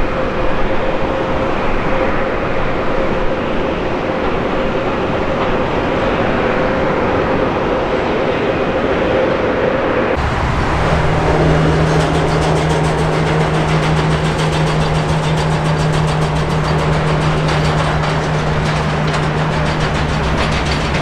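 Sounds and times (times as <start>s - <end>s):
jet engine noise with whine: 0.0s - 21.0s.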